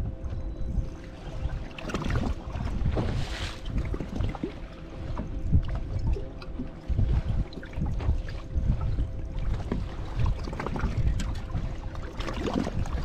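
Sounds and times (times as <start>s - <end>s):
wind buffeting microphone: 0.0s - 13.0s
water lapping: 0.8s - 13.0s.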